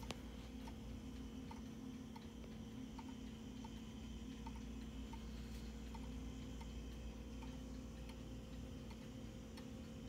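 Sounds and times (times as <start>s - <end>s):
clock ticking: 0.0s - 10.0s
low steady hum: 0.0s - 10.0s.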